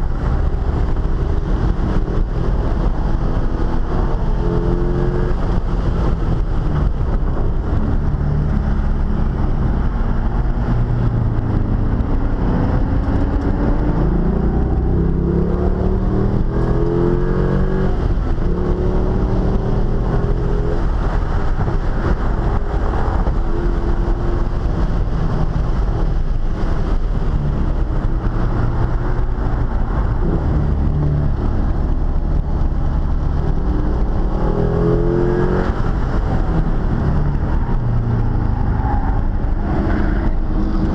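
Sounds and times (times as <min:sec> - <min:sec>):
car engine revving: 0:00.0 - 0:40.9
wind and road noise: 0:00.0 - 0:40.9.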